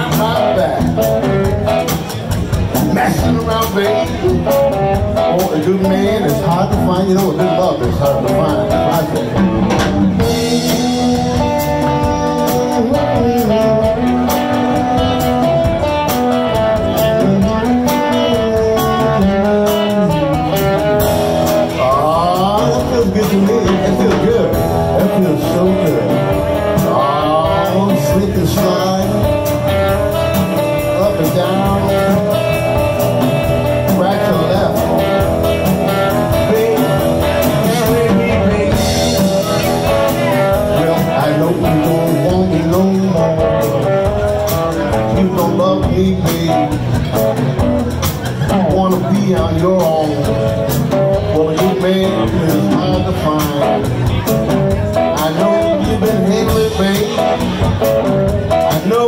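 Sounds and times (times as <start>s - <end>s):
double bass: 0.0s - 59.0s
drum kit: 0.0s - 59.0s
electric guitar: 0.0s - 59.0s.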